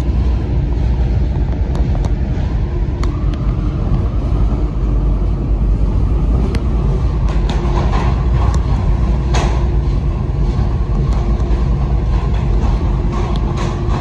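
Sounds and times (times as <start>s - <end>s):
tram low rumble: 0.0s - 14.0s.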